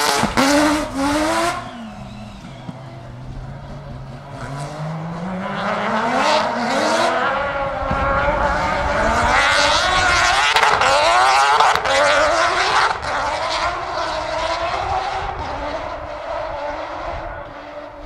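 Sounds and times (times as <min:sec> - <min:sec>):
rally car engine revving past: 0:00.0 - 0:18.0.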